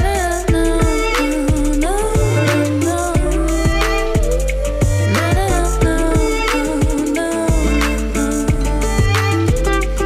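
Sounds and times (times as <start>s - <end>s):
beat with deep bass: 0.0s - 10.0s
sliding melody line: 0.5s - 10.0s.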